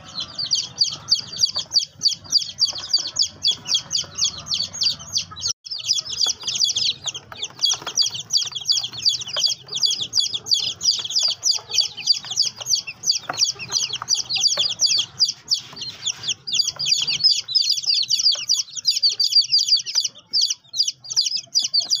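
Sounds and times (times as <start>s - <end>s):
baby chick peeping: 0.0s - 22.0s.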